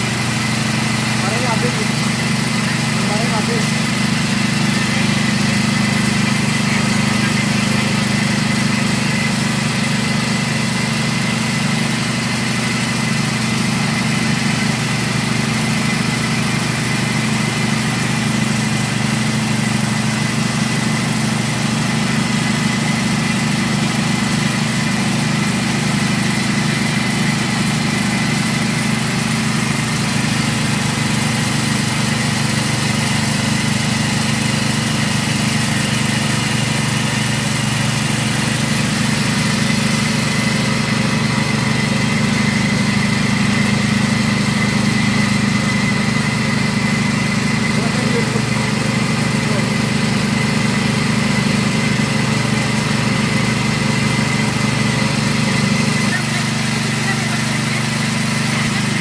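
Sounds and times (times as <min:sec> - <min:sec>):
grinding machine humming and whining: 0:00.0 - 0:59.0.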